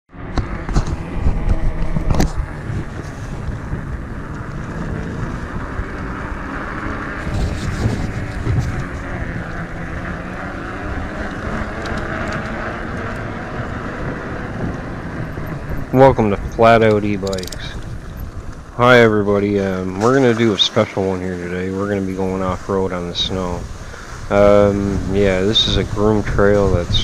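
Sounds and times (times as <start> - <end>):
wind buffeting microphone: 0.1 - 27.0
tyres rolling on wet pavement: 0.3 - 27.0.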